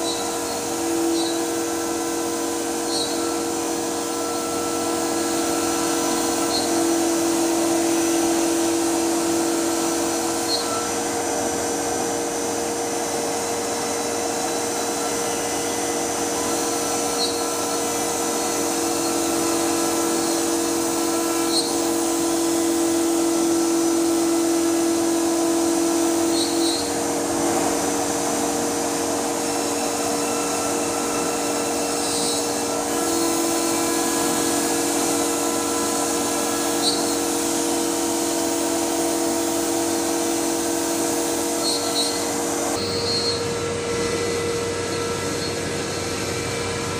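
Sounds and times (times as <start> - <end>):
router motor whine: 0.0 - 46.9.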